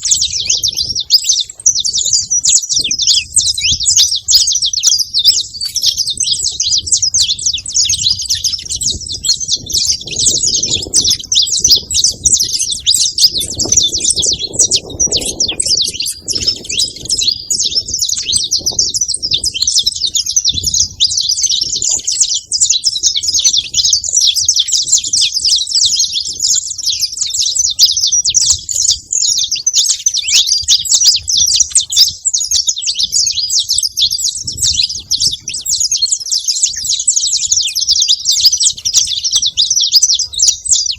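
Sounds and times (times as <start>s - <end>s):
finches chirping and singing: 0.0s - 40.9s.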